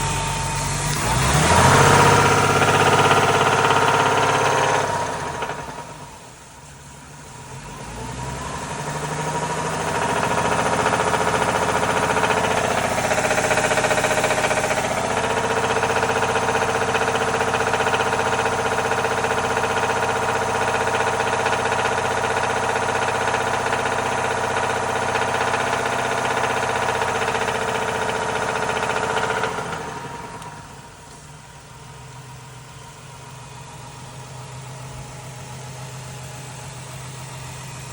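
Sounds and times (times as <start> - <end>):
vehicle engine revving: 0.0 - 6.4, 7.3 - 31.6.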